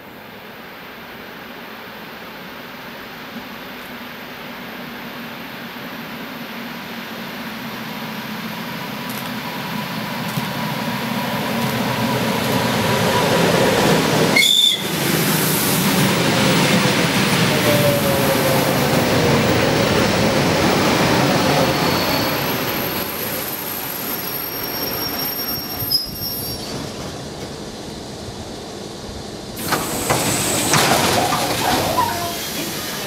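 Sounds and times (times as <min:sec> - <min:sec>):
train wheels rolling on rails: 0:02.6 - 0:33.0.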